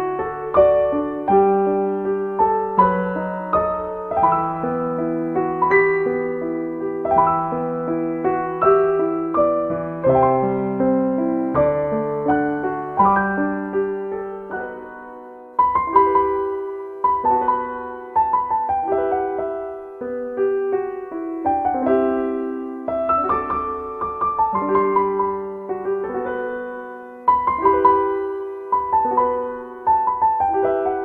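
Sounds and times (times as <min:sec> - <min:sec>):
slow piano melody: 0:00.0 - 0:31.0.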